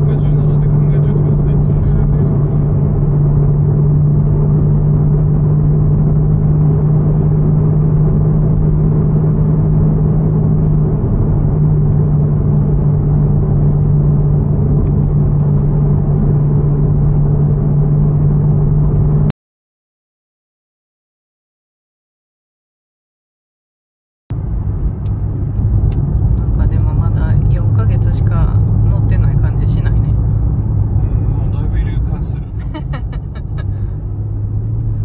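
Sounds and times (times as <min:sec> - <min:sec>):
car engine drone from inside cabin: 0:00.0 - 0:19.3, 0:24.3 - 0:35.0.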